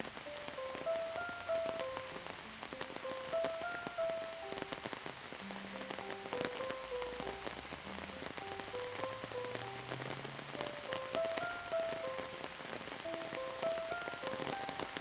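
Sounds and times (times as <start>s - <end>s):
gentle melody: 0.0s - 15.0s
rain drops ticking: 0.0s - 15.0s.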